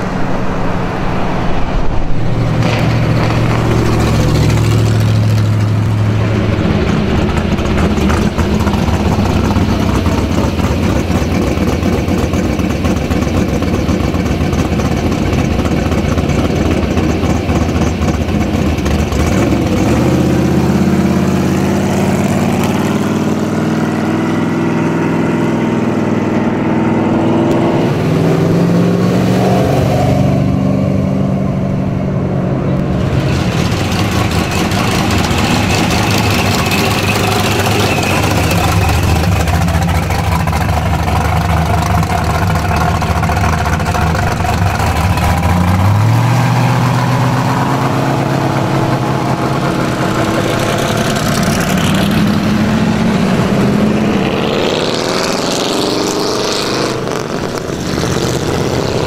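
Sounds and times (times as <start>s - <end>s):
car engines rumbling past: 0.0s - 59.0s
engine revving: 0.8s - 59.0s.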